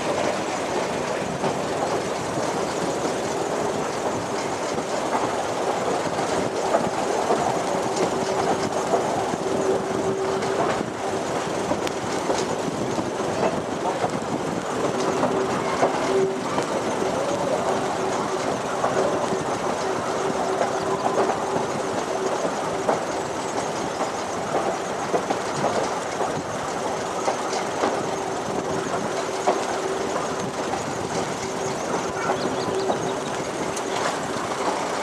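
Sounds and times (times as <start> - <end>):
clicks over rail joints: 0.0 - 35.0
train wheels rumbling on rails: 0.0 - 35.0.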